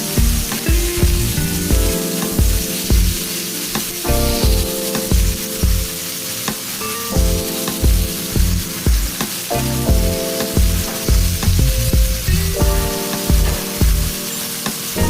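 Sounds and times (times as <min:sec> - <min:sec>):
background music with steady beat: 0:00.0 - 0:15.0
food sizzling in hot oil: 0:00.0 - 0:15.0.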